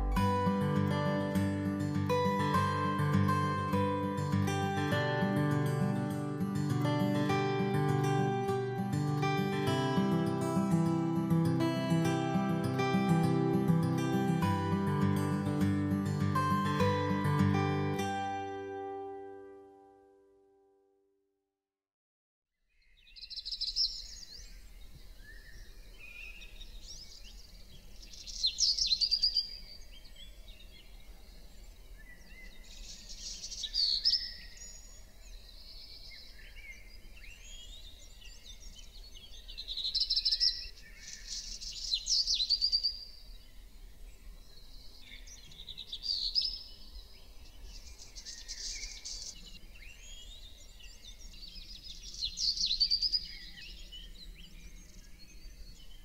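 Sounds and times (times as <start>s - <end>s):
songbirds singing and chirping: 0.0s - 19.4s, 22.7s - 56.0s.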